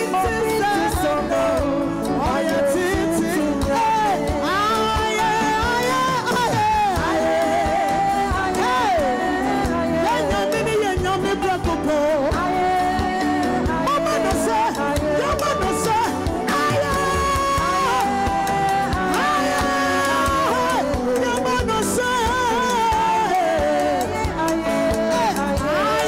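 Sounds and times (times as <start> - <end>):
bass guitar: 0.0 - 26.0
keyboards: 0.0 - 26.0
steady drum beat: 0.0 - 26.0
woman singing: 0.0 - 26.0.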